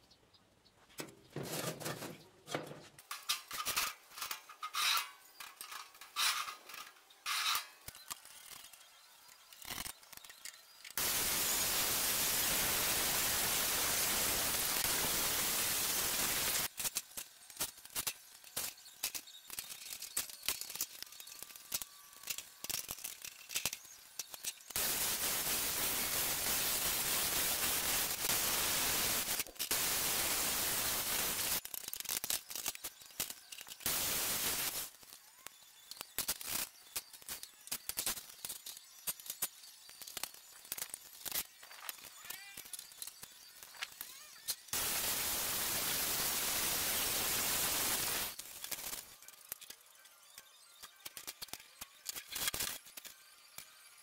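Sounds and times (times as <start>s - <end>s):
arc welding crackling hiss: 3.0s - 54.0s.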